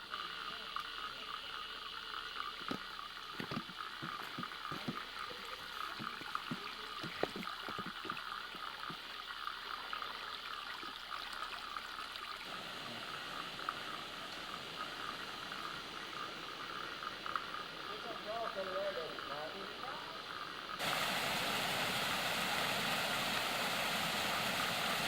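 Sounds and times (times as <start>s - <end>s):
stream running water: 0.0s - 25.0s.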